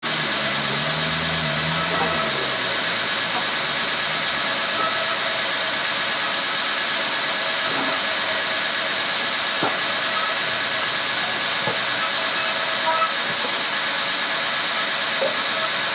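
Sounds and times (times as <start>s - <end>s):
woodworking machine hiss: 0.0s - 15.9s.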